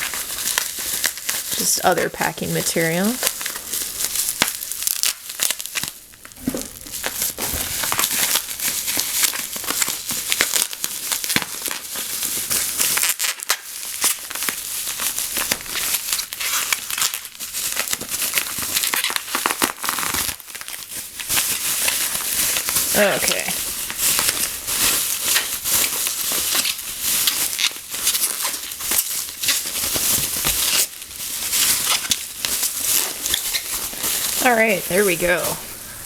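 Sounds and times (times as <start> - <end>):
packing material crinkling and tearing: 0.0 - 36.0.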